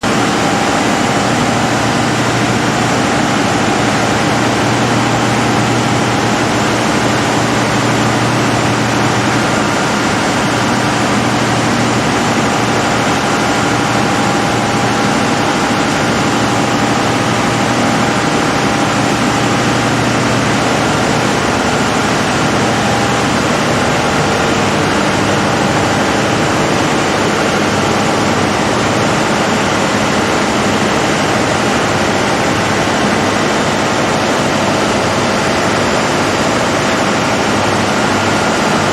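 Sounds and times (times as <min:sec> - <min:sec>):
diesel generator running: 0:00.0 - 0:38.9.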